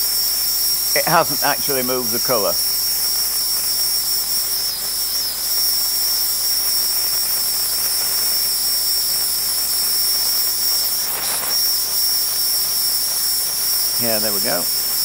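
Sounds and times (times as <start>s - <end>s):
air gun hissing with whistle: 0.0s - 15.0s.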